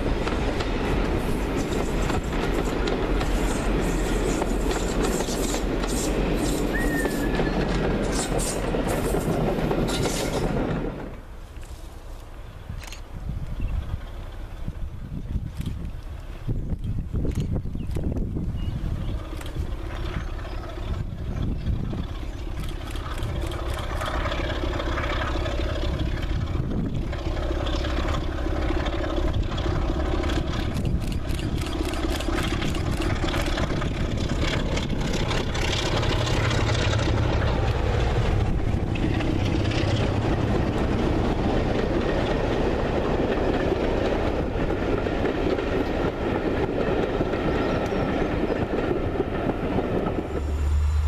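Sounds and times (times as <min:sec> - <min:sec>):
train wheels clattering on rails: 0:00.0 - 0:11.7, 0:18.9 - 0:51.0
diesel locomotive engine drone: 0:00.0 - 0:51.0.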